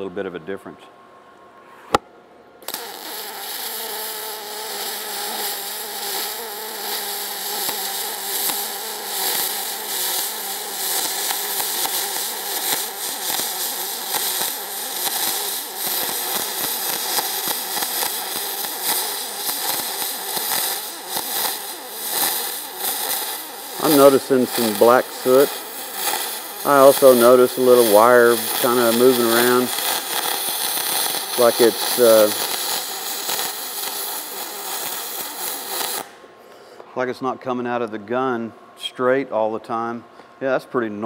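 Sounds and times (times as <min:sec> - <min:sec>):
welding arc crackling buzz: 0:02.6 - 0:36.3.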